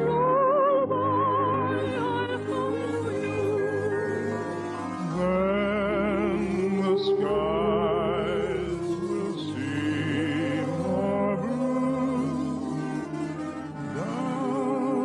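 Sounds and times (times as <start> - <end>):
singer with wide vibrato: 0.0 - 15.0
orchestra playing: 2.9 - 15.0.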